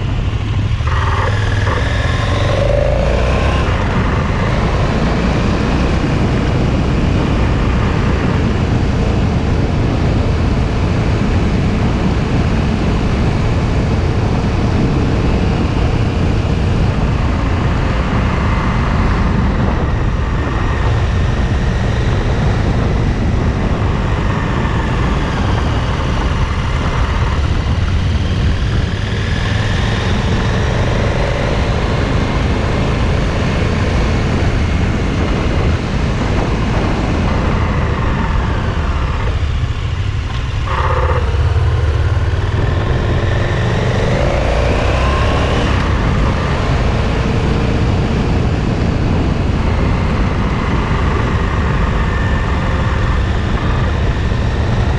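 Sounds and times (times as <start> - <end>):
motorcycle engine revving: 0.0 - 54.9
rush of noise: 0.0 - 54.9.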